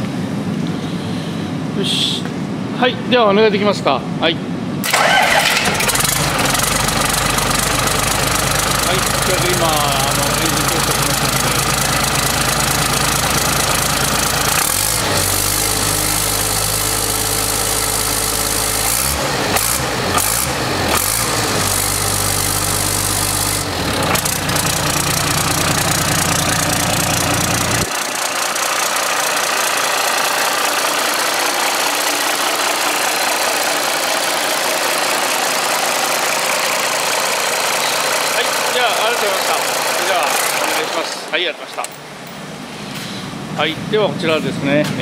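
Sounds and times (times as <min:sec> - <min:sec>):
diesel engine rumble: 0:04.8 - 0:41.3
higher engine sound: 0:04.8 - 0:44.9.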